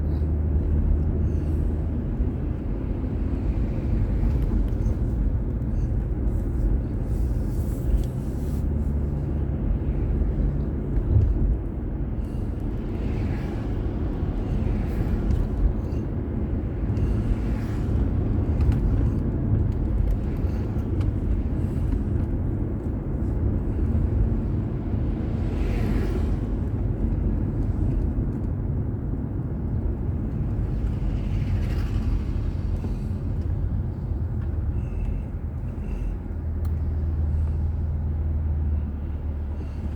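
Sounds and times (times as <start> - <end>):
car engine and tyre rumble: 0.0 - 39.9
passing traffic: 0.0 - 39.9.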